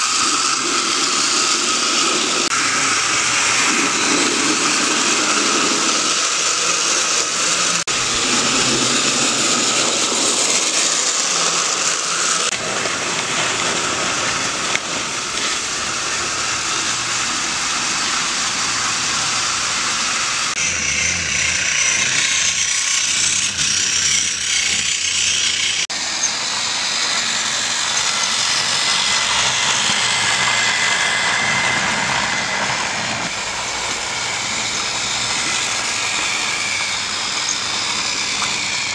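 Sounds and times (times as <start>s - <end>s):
toy trains running on track: 0.0s - 38.9s.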